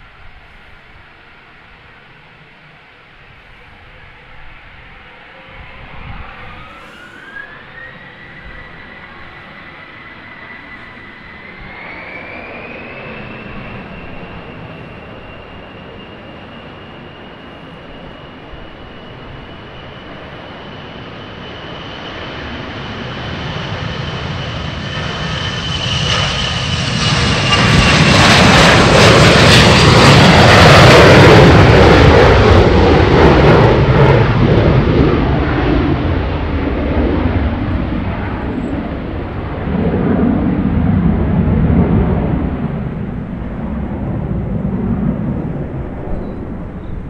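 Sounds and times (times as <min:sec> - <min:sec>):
jet taking off: 0:00.0 - 0:47.0.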